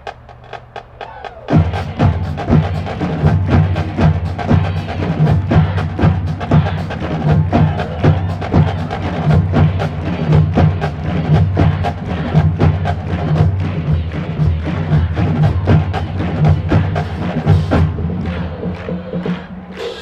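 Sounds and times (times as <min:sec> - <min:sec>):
marching band music: 0:00.0 - 0:20.0.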